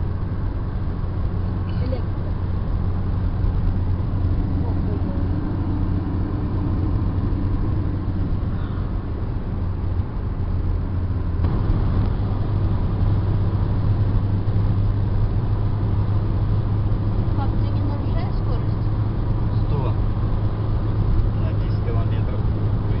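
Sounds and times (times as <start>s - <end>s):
car engine and tyre drone: 0.0s - 23.0s.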